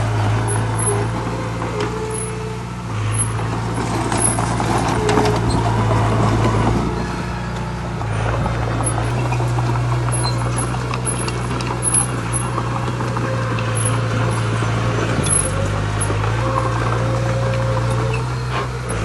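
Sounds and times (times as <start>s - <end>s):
heavy diesel engine working: 0.0s - 19.0s.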